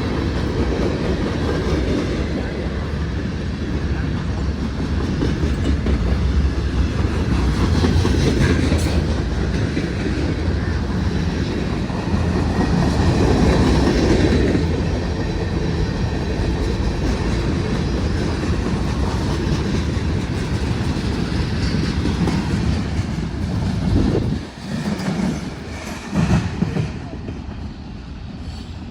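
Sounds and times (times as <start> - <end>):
freight train rumbling past: 0.0 - 28.9.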